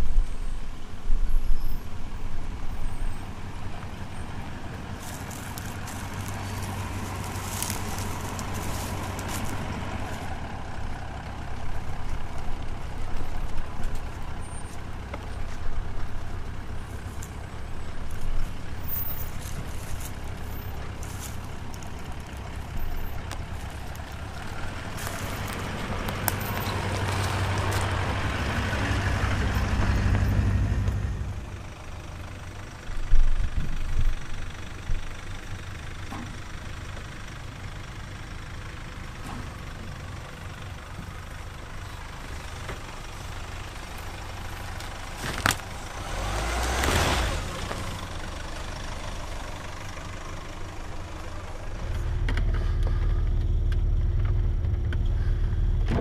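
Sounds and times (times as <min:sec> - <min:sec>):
diesel engine running at low speed: 0:00.0 - 0:56.0.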